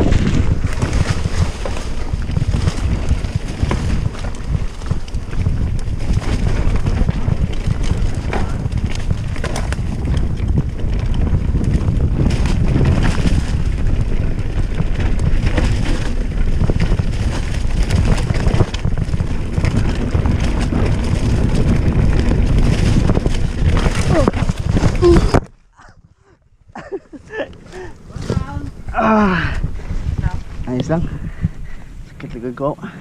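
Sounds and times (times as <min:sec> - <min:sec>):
bike knocking and rattling: 0:00.0 - 0:33.0
steady low rumble: 0:00.0 - 0:33.0
wind buffeting microphone: 0:00.0 - 0:33.0.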